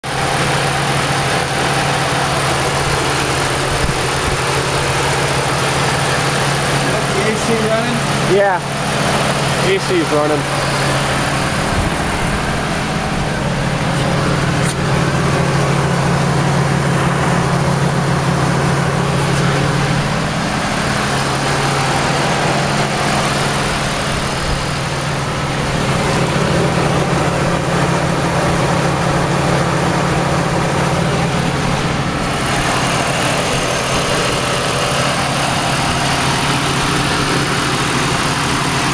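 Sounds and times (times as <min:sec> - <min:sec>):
air conditioning running: 0:00.0 - 0:38.9
car engine idling: 0:00.0 - 0:38.9.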